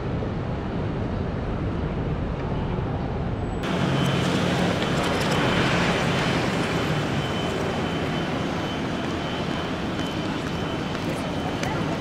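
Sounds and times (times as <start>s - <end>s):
low engine hum: 0.0s - 12.0s
road traffic noise: 0.0s - 12.0s.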